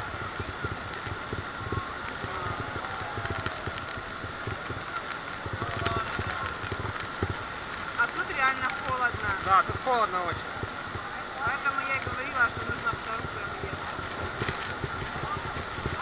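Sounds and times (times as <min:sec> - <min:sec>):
faint passenger voices: 0:00.0 - 0:16.0
steady high whine: 0:00.0 - 0:16.0
waterfall rushing: 0:00.0 - 0:16.0
wind buffeting microphone: 0:00.0 - 0:16.0.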